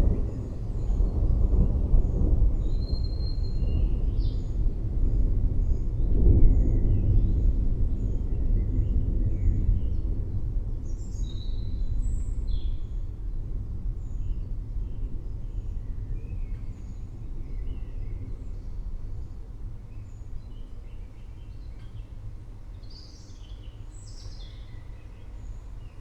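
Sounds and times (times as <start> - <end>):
low thunder rumble: 0.0 - 26.0.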